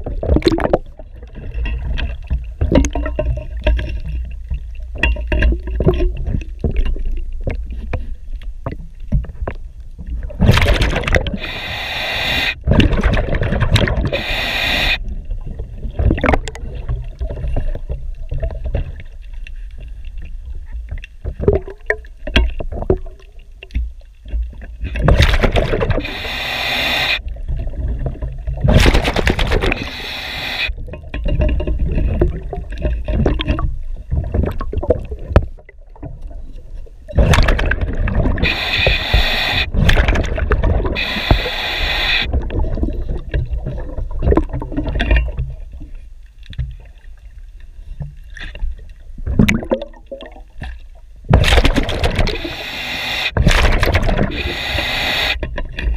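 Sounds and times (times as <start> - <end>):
scraping and scrubbing underwater: 0.0 - 55.9
underwater gurgling bubbles: 0.0 - 55.9.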